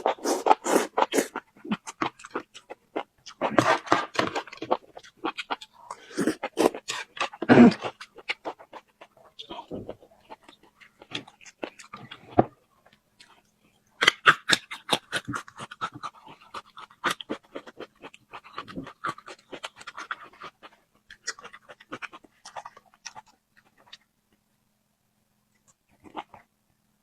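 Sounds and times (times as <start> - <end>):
chewing with wet clicks and crunches: 0.1 - 24.4, 25.5 - 26.5.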